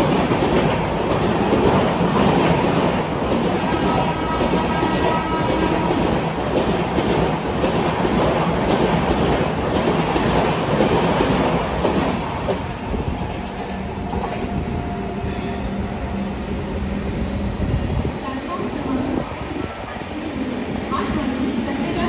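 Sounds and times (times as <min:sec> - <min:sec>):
train wheels rattling on rails: 0:00.0 - 0:22.0.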